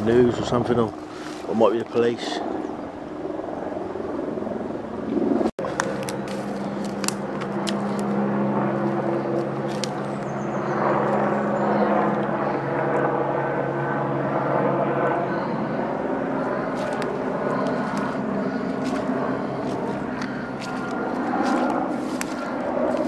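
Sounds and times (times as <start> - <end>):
helicopter drone: 0.0 - 23.0.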